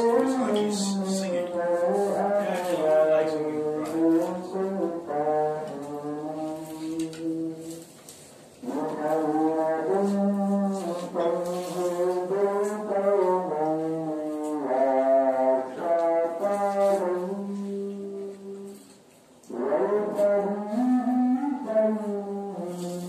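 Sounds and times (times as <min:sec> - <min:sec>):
man chanting a prayer: 0:00.0 - 0:07.7, 0:08.6 - 0:18.7, 0:19.5 - 0:23.0.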